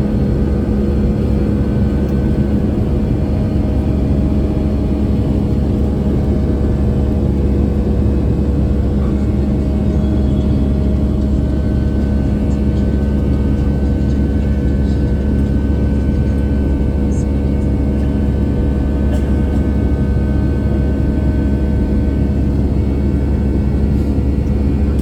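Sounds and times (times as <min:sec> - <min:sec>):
jet engine cabin drone: 0:00.0 - 0:25.0.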